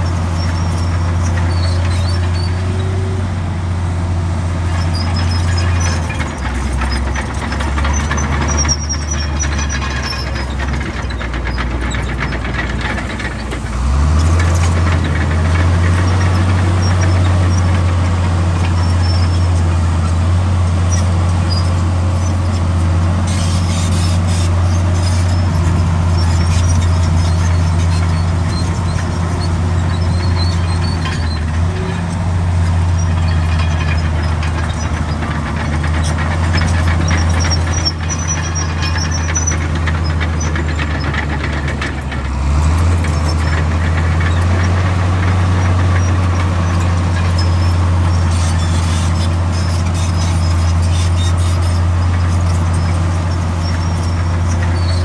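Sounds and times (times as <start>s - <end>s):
steel tracks squeaking: 0.0s - 3.2s, 4.6s - 55.0s
bulldozer diesel engine: 0.0s - 55.0s.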